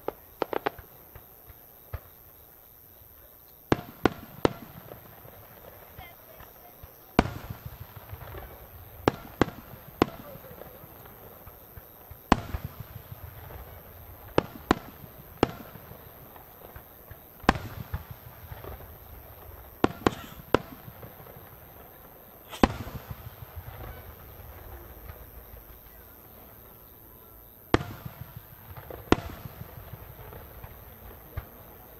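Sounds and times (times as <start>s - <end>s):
firework bangs: 0.0s - 2.2s, 3.7s - 27.0s, 27.7s - 31.9s.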